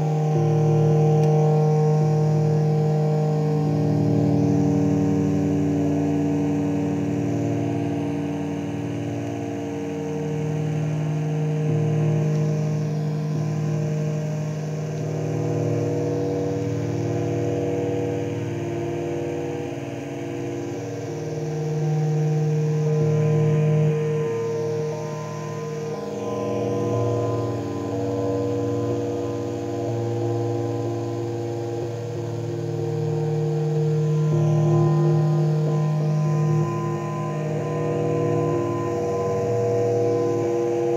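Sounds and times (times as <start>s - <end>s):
analog synth drone: 0.0s - 40.9s.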